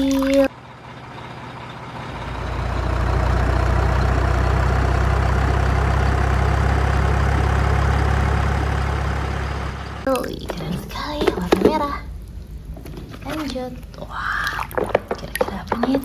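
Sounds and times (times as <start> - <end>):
truck engine idling: 0.1 - 16.0.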